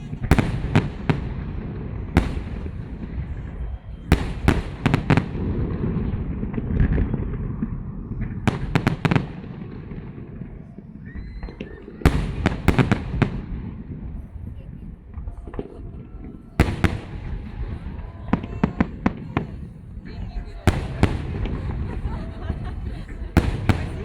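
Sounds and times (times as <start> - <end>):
firework bangs: 0.0 - 24.0.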